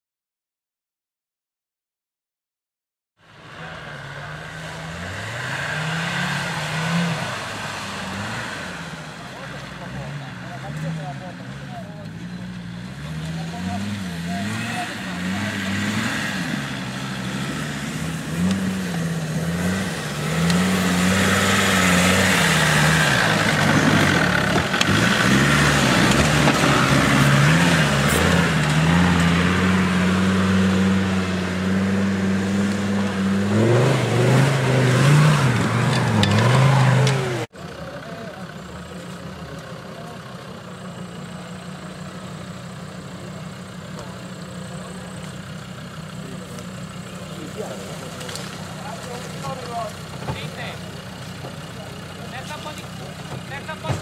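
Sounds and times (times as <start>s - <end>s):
engine revving: 3.2s - 54.0s.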